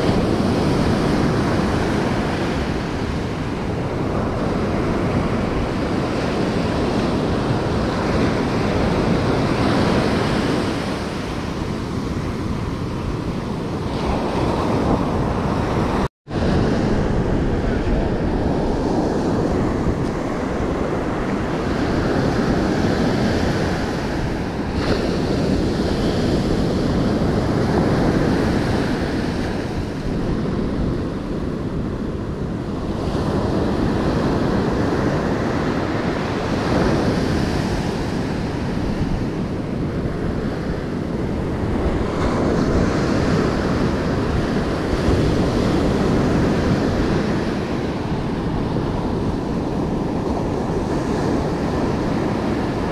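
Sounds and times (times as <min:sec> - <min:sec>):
ocean surf breaking: 0:00.0 - 0:52.9
wind buffeting microphone: 0:00.0 - 0:52.9.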